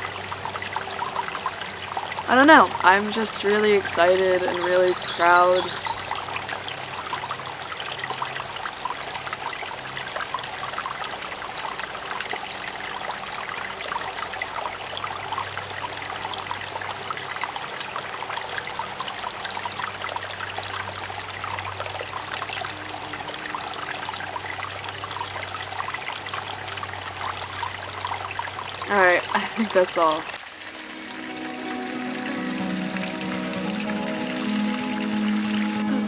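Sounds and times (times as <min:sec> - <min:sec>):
creek water babbling: 0:00.0 - 0:36.0.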